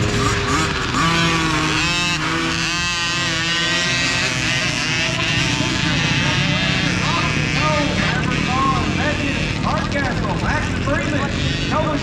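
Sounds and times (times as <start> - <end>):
dirt bikes revving and accelerating: 0.0 - 12.0.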